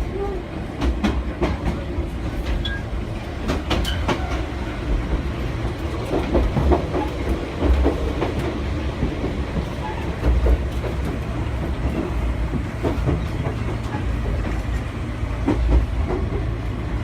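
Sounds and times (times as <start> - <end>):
train rumbling on track: 0.0 - 17.0
wheels clicking over rail joints: 0.1 - 16.6.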